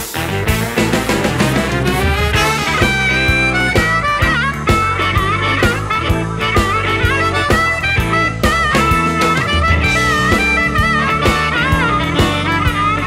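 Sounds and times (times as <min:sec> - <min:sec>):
blues band with steady beat: 0:00.0 - 0:13.0
harmonica solo with bent notes: 0:00.0 - 0:13.0.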